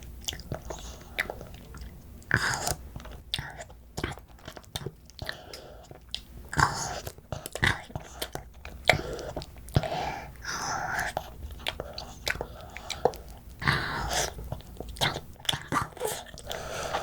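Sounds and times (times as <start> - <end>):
chewing noodles: 0.0 - 17.0.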